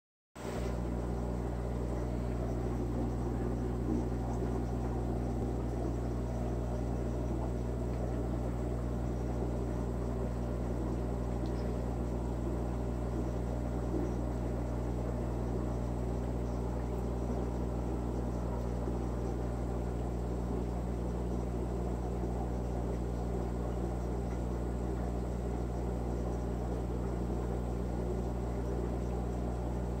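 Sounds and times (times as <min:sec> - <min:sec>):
aquarium filter bubbling: 0:00.4 - 0:30.0
constant low hum: 0:00.4 - 0:30.0.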